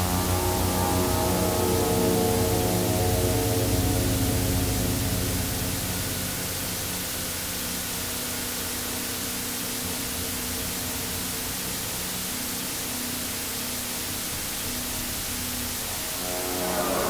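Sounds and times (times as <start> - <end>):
droning ambient soundtrack: 0.0 - 17.0.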